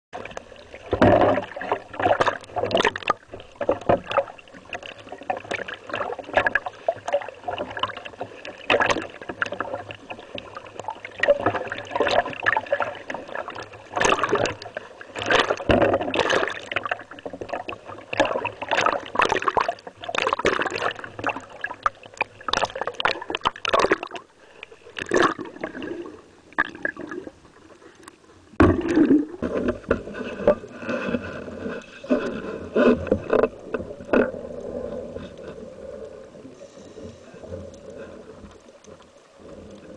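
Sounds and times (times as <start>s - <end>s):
sea water sloshing and splashing: 0.2s - 39.9s.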